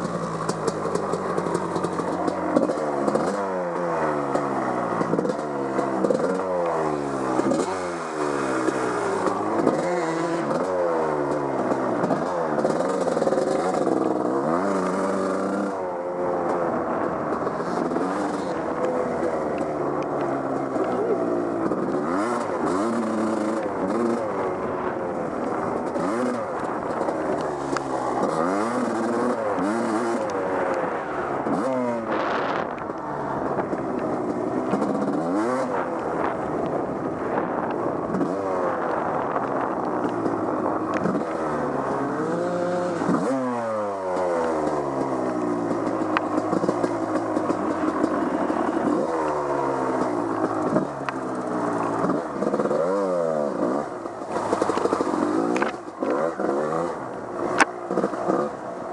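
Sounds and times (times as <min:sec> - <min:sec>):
off-road engine revving: 0:00.0 - 0:58.9.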